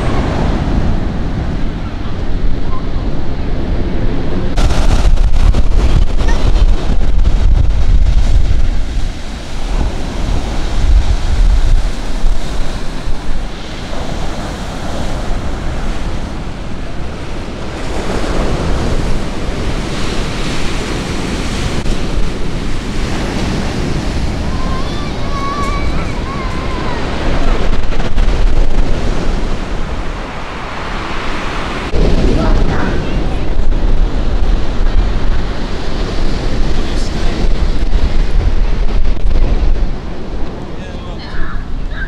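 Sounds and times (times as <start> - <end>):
sea waves breaking: 0.0 - 42.0
wind buffeting microphone: 0.0 - 42.0.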